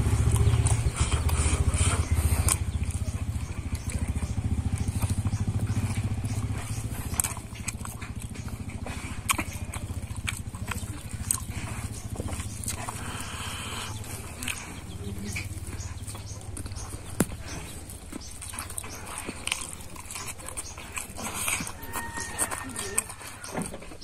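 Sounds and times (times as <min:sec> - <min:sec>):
chewing and lip-smacking: 0:00.0 - 0:24.0.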